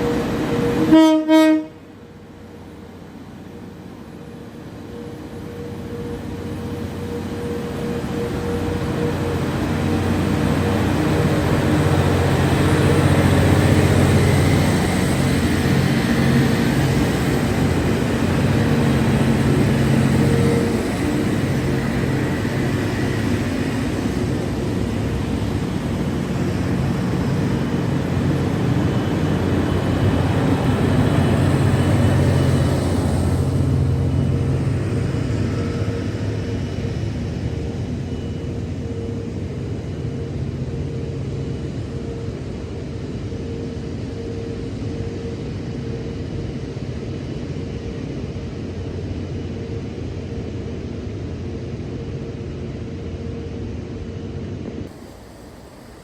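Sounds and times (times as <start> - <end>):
train engine and rail noise: 0.0 - 56.0.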